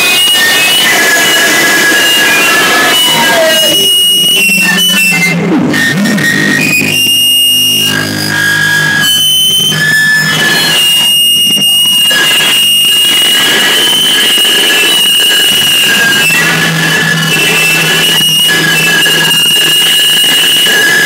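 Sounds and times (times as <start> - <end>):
squealing feedback tones: 0.0 - 21.0.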